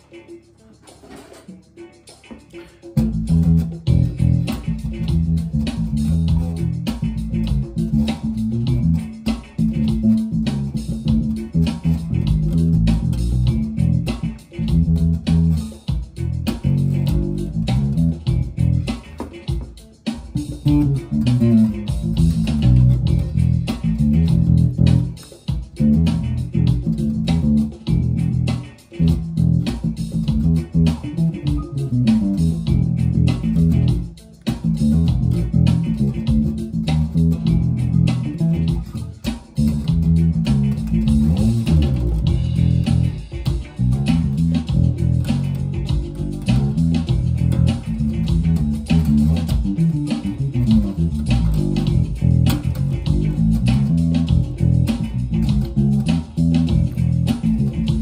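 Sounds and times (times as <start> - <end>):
electric bass guitar groove: 0.0 - 58.0.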